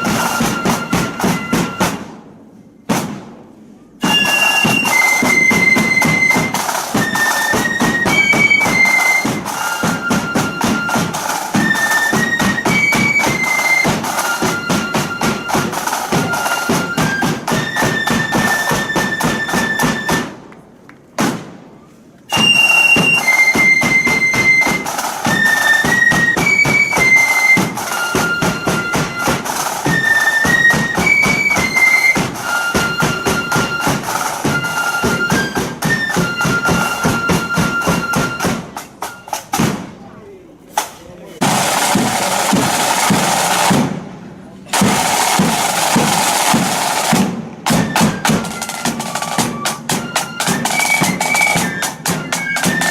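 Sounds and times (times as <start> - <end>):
snare drum rolls: 0.0 - 2.3, 2.9 - 20.5, 21.1 - 40.0, 40.8 - 52.9
flutes playing march melody: 0.0 - 3.2, 3.8 - 20.5, 21.2 - 40.0, 41.4 - 44.0, 44.7 - 52.9.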